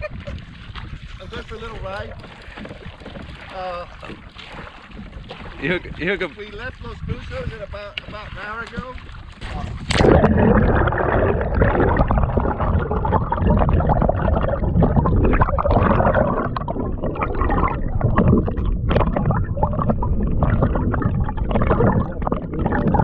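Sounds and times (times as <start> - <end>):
underwater rushing and gurgling: 0.0 - 23.0.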